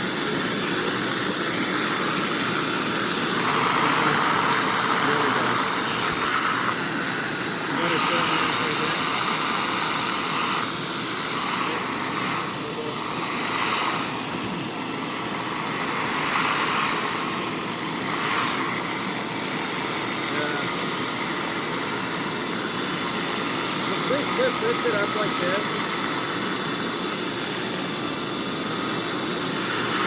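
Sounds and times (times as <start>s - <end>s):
carpet cleaner scrubbing: 0.0s - 30.0s.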